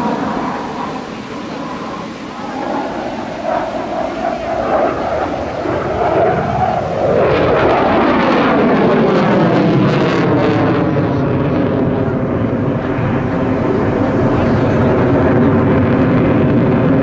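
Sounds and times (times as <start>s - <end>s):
jet engine crackle: 0.0s - 17.0s
jet roar passing: 0.0s - 17.0s.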